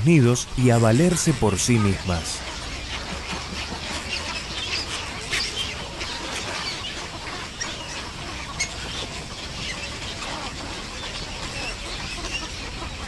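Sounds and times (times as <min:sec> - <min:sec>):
herons and egrets calling: 0:00.0 - 0:13.0.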